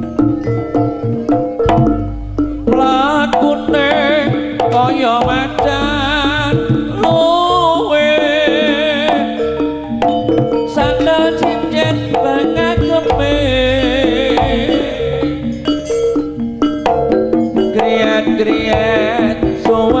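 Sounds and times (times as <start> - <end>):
gong and metallophone tones: 0.0 - 20.0
hand drums beating: 0.0 - 20.0
high wavering melody: 0.0 - 20.0.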